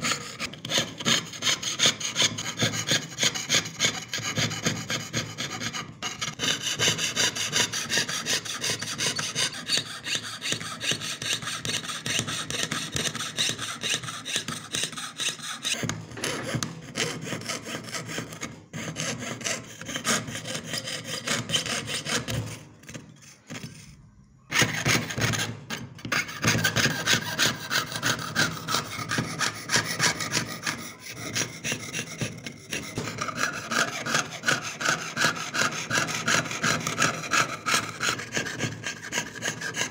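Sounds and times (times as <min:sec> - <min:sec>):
saw rasping through thin metal: 0:00.0 - 0:23.9, 0:24.5 - 0:39.9.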